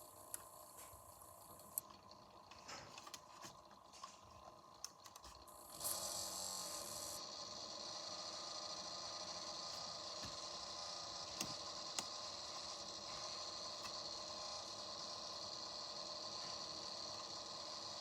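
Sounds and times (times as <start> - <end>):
computer fan whining: 0.0 - 18.0.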